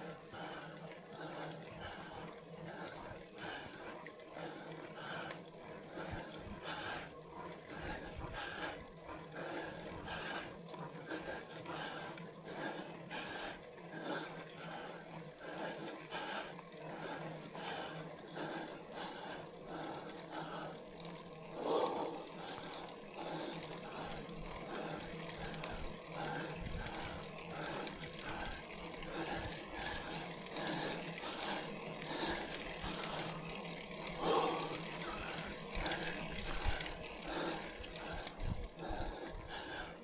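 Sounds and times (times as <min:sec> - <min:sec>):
person breathing hard: 0:00.0 - 0:40.0.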